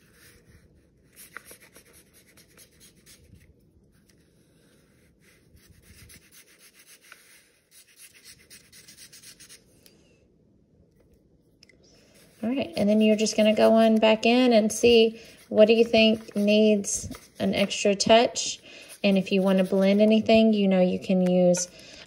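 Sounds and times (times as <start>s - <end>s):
marker scratching on paper: 0.0s - 9.6s, 12.0s - 22.0s.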